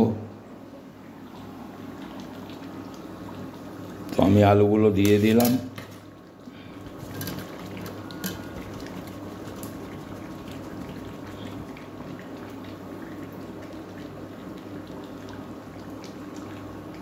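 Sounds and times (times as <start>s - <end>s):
curry bubbling in a pot: 1.2s - 4.6s, 5.3s - 17.0s.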